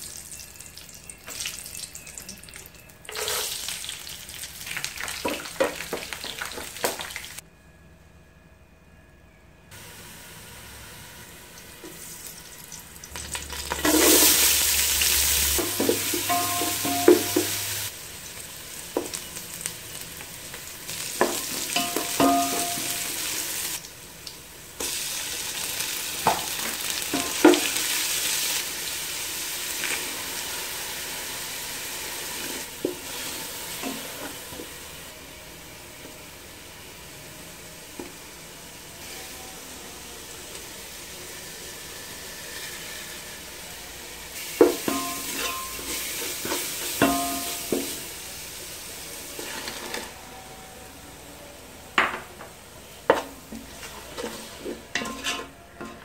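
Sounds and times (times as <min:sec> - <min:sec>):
onions frying in hot oil: 0:00.0 - 0:07.4, 0:09.8 - 0:50.2, 0:52.0 - 0:56.0.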